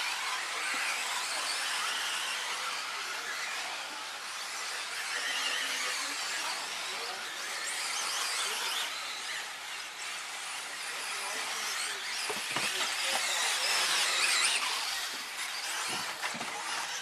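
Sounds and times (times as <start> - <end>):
high-pitched rc motor whine: 0.0 - 17.0.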